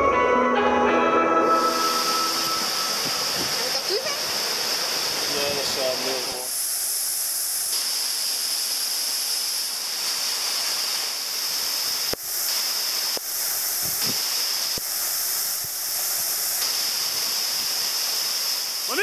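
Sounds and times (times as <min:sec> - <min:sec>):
waterfall rushing: 0:01.4 - 0:19.0.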